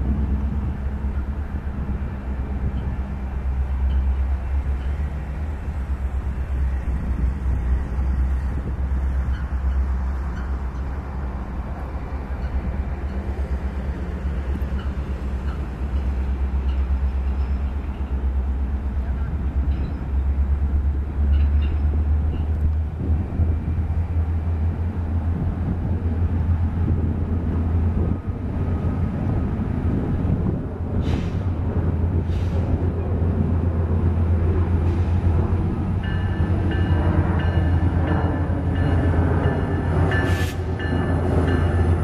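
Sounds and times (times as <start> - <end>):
diesel locomotive engines rumbling: 0.0 - 42.0.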